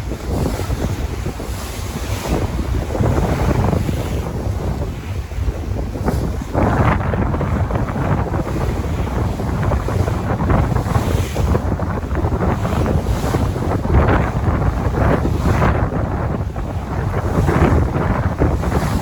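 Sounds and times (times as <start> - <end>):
sea waves washing in: 0.0 - 19.0
wind buffeting the microphone: 0.0 - 19.0.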